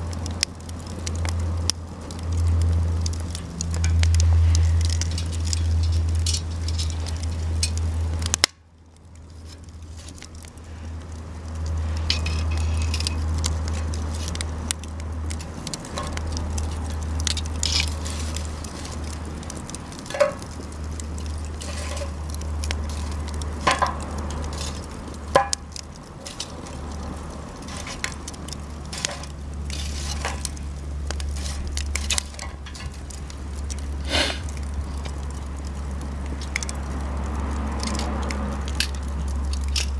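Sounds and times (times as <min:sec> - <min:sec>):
low rumble: 0:00.0 - 0:36.4
campfire crackling and popping: 0:00.0 - 0:39.9.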